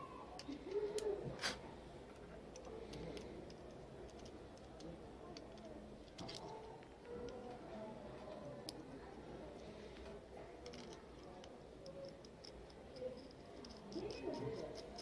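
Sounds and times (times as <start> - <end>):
faint voices: 0.0 - 15.0
small hard parts clicking: 0.4 - 7.6, 9.9 - 15.0.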